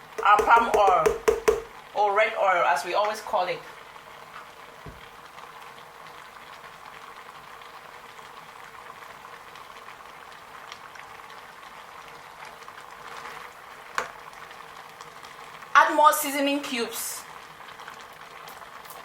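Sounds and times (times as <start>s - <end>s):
soup bubbling at the boil: 0.0s - 19.0s.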